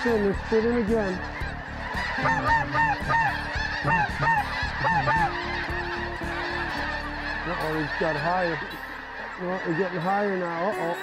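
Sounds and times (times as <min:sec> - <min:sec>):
snow geese honking: 0:00.0 - 0:11.0.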